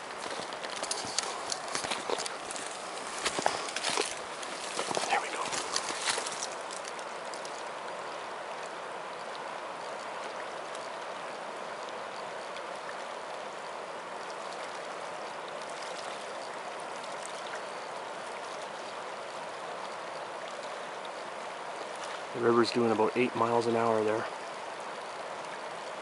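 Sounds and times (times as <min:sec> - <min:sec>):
fast-flowing river rushing: 0:00.0 - 0:26.0.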